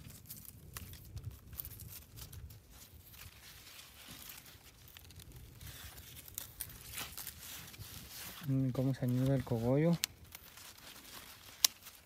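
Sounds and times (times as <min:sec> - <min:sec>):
corn leaves rustling: 0:00.0 - 0:12.0.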